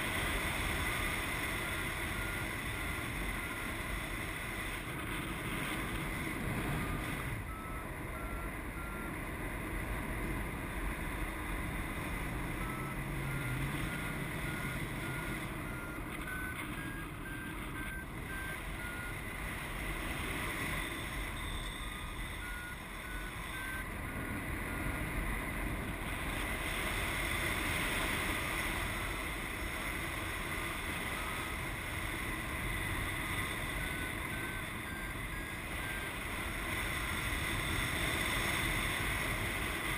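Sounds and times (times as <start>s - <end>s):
variometer beeping: 0.0s - 39.9s.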